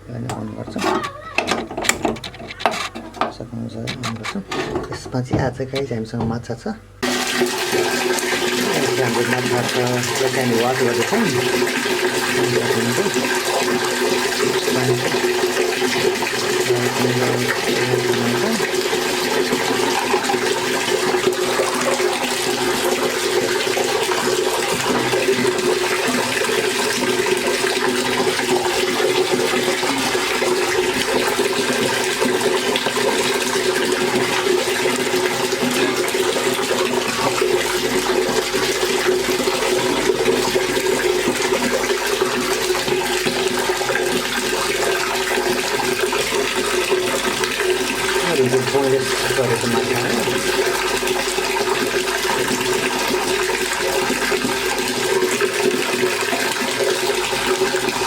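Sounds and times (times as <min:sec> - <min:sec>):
tap water running: 0:00.0 - 0:58.0.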